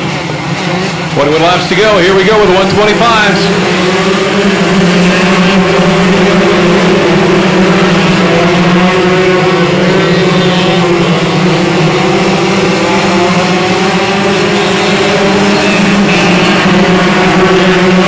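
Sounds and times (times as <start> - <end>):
racing car engines at high revs: 0.0 - 18.0.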